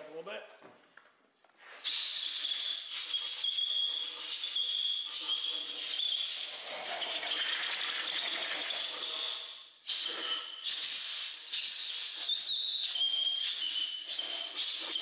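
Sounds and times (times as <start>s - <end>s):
compressed air blow gun hissing: 1.7s - 15.0s.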